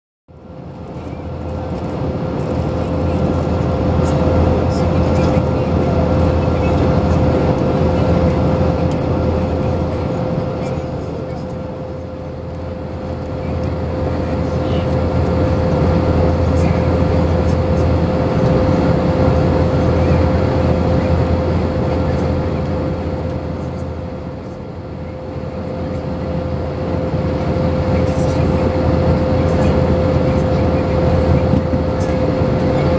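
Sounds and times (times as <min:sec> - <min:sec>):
airplane cabin roar: 0:00.3 - 0:32.9.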